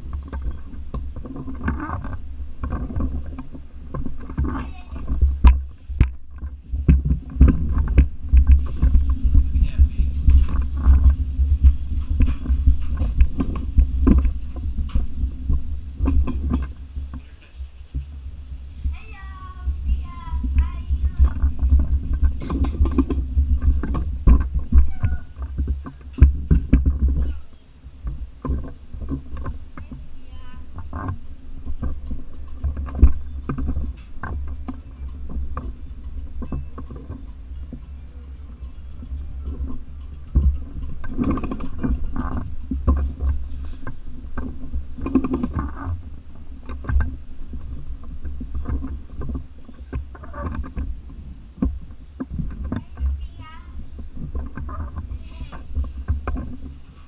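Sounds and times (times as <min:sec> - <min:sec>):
rattles and knocks: 0:00.0 - 0:57.0
tricycle wheels rumbling on tile: 0:00.0 - 0:57.0.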